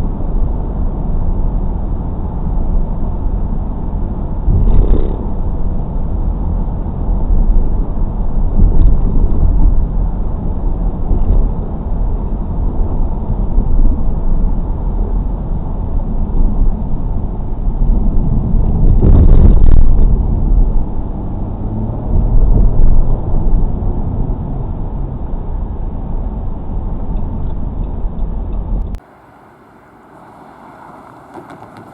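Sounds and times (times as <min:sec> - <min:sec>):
car road and engine rumble: 0:00.0 - 0:31.9.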